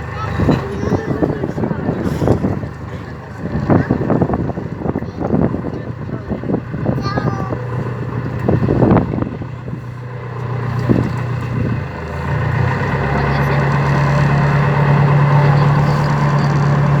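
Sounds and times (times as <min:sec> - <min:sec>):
motorboat engine: 0:00.0 - 0:17.0.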